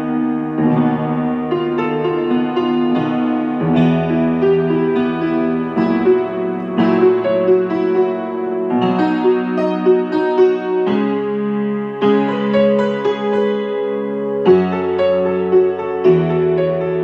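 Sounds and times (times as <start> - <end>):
upright piano playing: 0.0 - 17.0.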